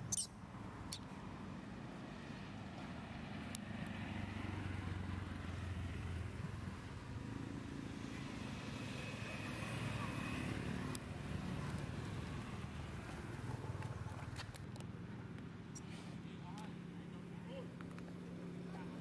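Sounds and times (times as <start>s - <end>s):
passing vehicle engine hum: 0.3s - 19.0s.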